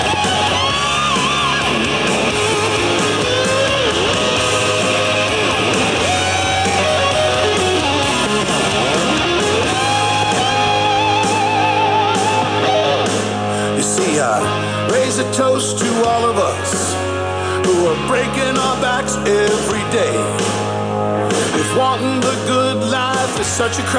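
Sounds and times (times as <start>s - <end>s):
electric guitar lead line: 0.0s - 23.9s
rock band backing: 0.0s - 23.9s.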